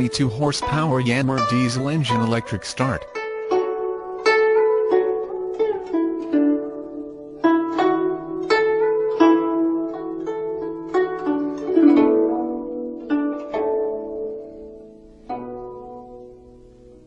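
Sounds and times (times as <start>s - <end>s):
plucked harp-like string notes: 0.0s - 17.0s.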